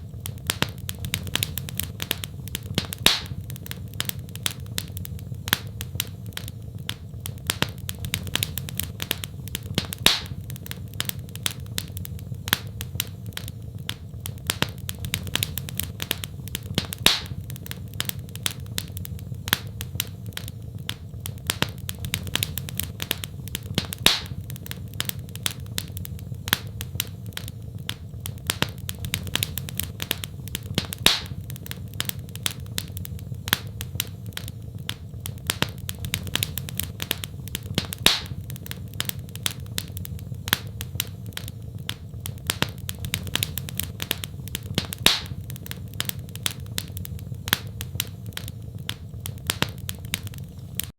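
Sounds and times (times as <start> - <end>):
wood fire crackling: 0.0 - 50.9
loud fire pop: 0.1 - 50.9.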